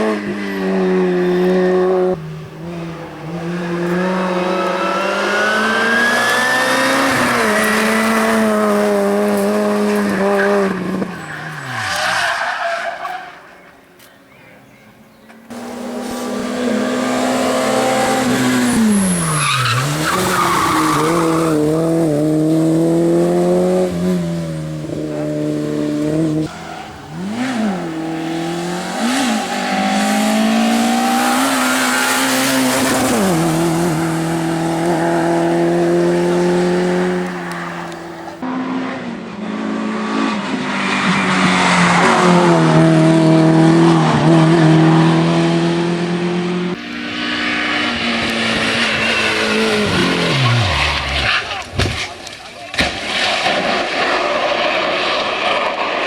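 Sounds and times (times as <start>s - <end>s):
race car engines revving: 0.0s - 13.8s, 15.5s - 56.0s.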